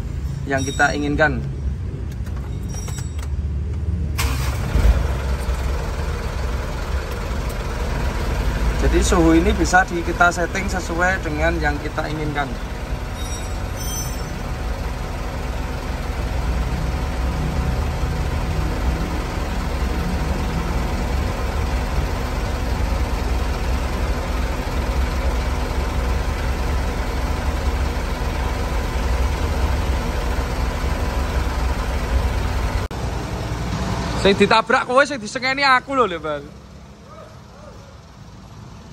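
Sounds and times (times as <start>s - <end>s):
diesel engine idling: 3.3s - 38.9s.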